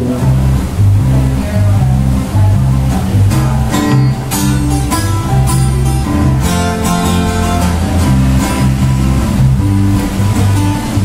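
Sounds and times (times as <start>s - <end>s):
acoustic guitars strumming chords: 0.0s - 11.0s
low bass line: 0.0s - 11.0s.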